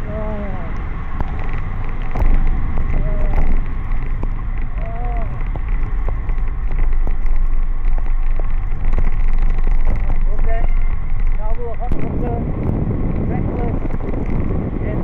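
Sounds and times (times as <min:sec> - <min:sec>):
raindrops spattering: 0:00.0 - 0:15.0
wind rumbling on microphone: 0:00.0 - 0:15.0.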